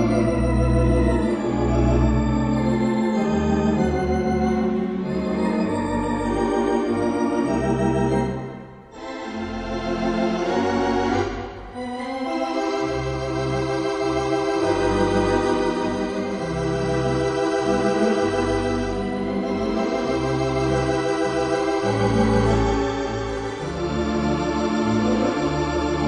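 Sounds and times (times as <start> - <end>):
organ music: 0.0 - 26.0.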